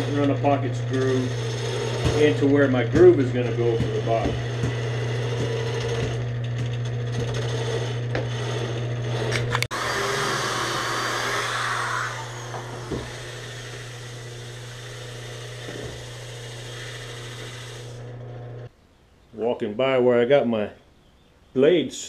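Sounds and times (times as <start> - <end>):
power drill boring into plywood: 0.0 - 18.2
low machine hum: 0.0 - 18.7.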